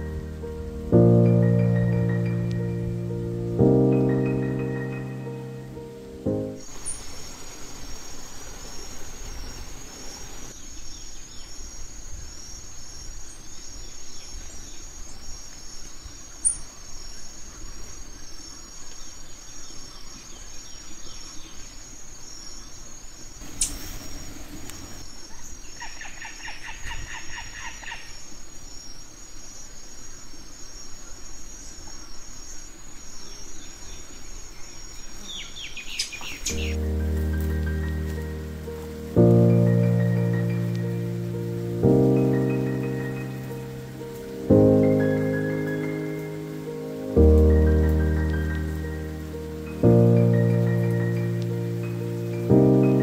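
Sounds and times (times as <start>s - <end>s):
insects trilling: 0.0s - 53.0s.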